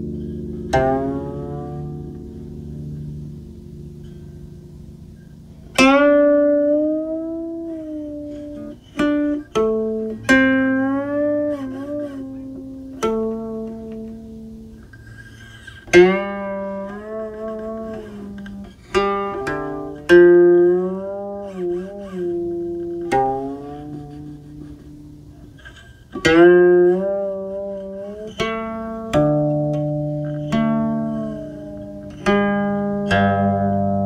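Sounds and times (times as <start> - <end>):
plucked zither notes: 0.0 - 34.0.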